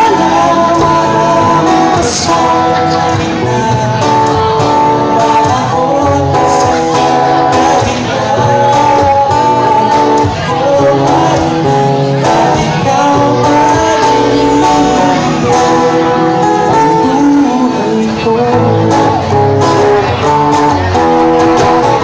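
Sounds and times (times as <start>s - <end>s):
acoustic guitar: 0.0s - 22.0s
man singing: 0.0s - 22.0s.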